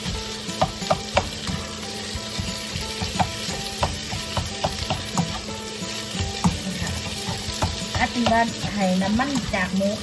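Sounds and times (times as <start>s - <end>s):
spatula knocking and scraping pan: 0.0s - 9.9s
meat sizzling in frying pan: 0.0s - 10.0s.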